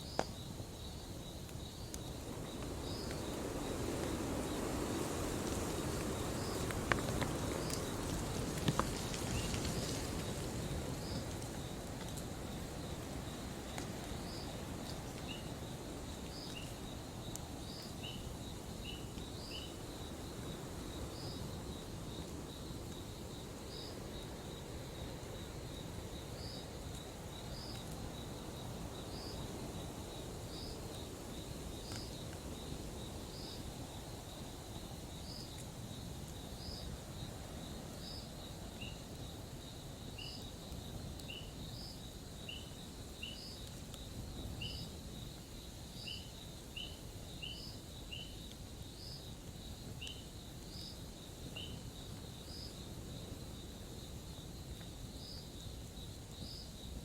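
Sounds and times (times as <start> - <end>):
high insect trill: 0.0 - 57.0.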